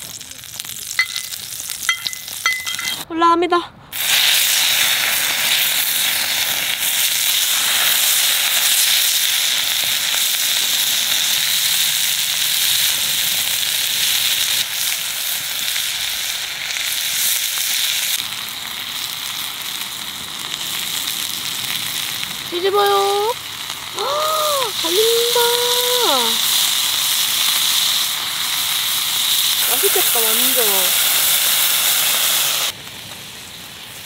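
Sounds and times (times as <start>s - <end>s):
meat sizzling in a pan: 4.0s - 34.0s.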